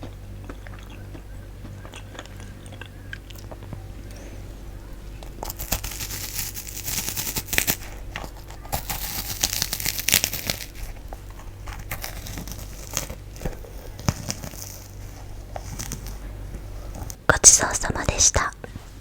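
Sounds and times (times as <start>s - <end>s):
crisp crinkling and crackling: 0.0s - 17.3s.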